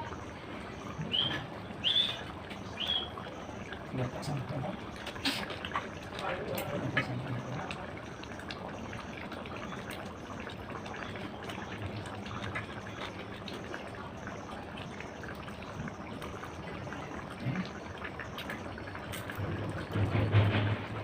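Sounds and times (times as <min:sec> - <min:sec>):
curry bubbling in a pan: 0:00.0 - 0:21.0.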